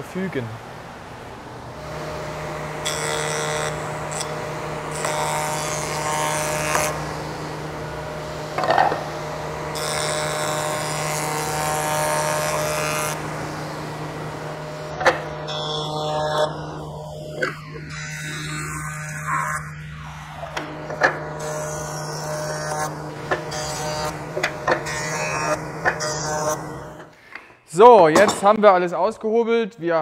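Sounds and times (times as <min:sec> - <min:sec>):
jointer cutting wood: 0:01.6 - 0:27.2
jointer motor humming: 0:01.6 - 0:27.2.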